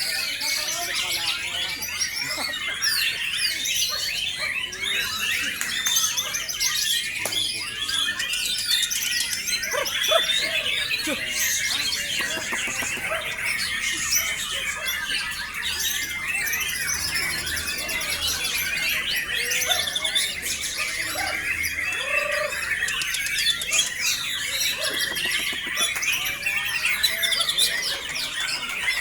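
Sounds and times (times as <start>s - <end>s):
birds singing in chorus: 0.0s - 29.0s.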